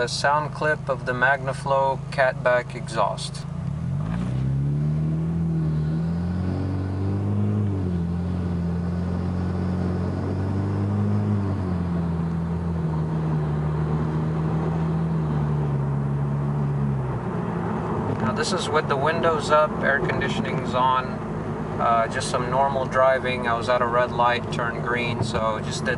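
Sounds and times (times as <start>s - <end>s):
car engine accelerating in cabin: 0.0s - 25.9s.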